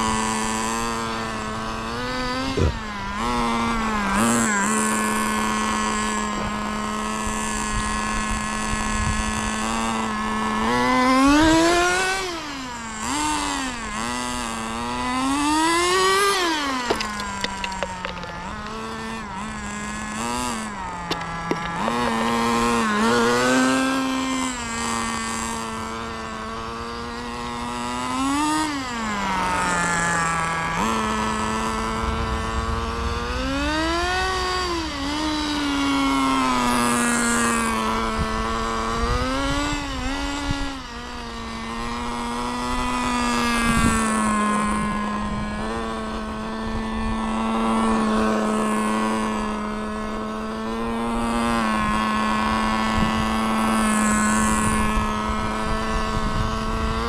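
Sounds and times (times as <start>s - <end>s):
small nitro engine idling and revving: 0.0s - 57.0s.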